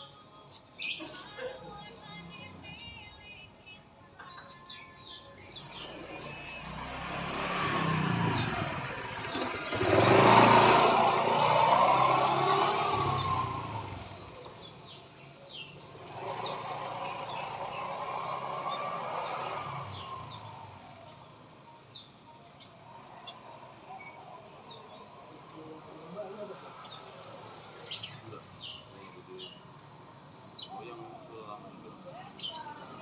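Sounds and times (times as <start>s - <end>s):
songbird chirps: 0.0s - 33.0s
vehicle passing on road: 5.5s - 33.0s.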